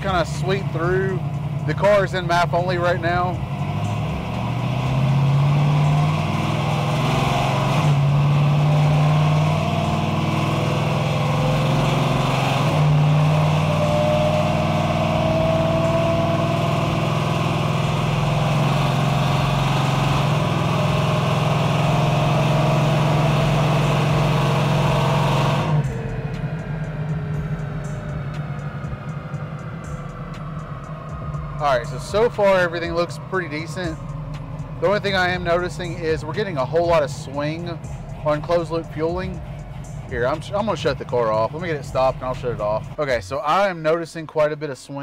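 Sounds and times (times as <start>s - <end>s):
supercharger whine: 0.0s - 44.5s
loud car engine at part throttle: 0.0s - 44.8s.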